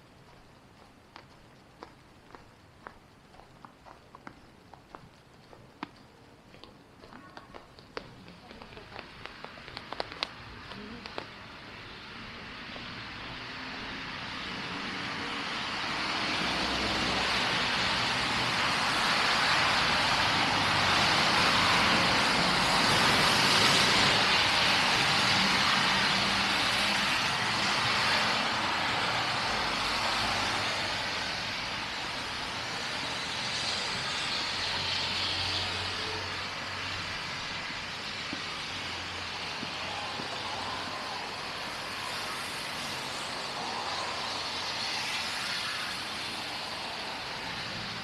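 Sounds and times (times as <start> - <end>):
road traffic passing: 0.0 - 48.0.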